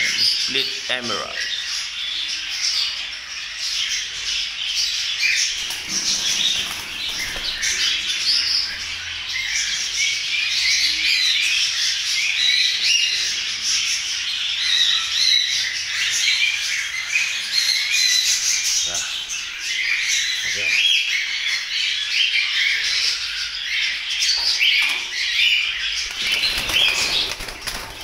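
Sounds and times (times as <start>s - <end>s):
parrots squawking and chirping: 0.0s - 28.0s.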